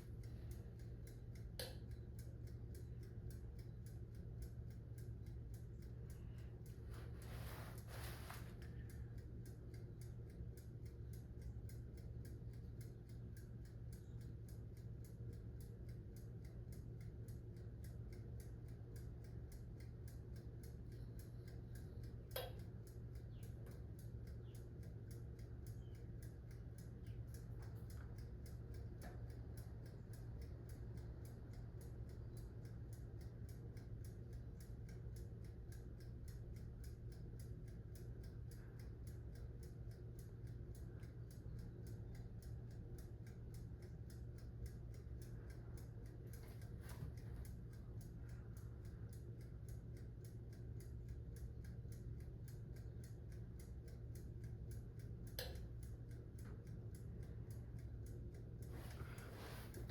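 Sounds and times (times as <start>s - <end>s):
dial timer ticking: 0.0s - 59.9s
oven hum: 0.0s - 59.9s.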